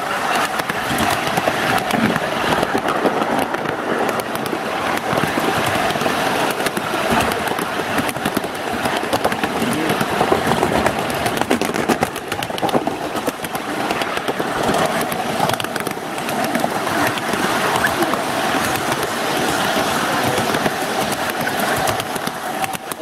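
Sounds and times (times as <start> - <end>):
railway cars rattling on track: 0.0 - 23.0
wheels clicking and clacking: 0.0 - 23.0.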